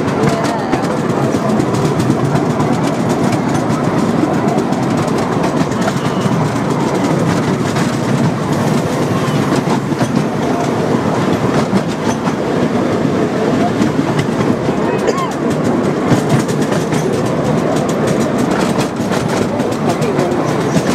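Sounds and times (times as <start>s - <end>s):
train carriage rumbling on track: 0.0s - 20.9s
wheels clicking on rails: 0.0s - 20.9s.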